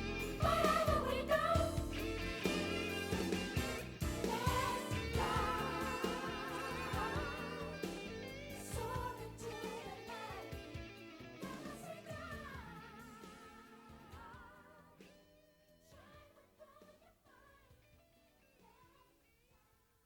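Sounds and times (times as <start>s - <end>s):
pop song with singing: 0.0s - 15.2s, 15.9s - 19.2s.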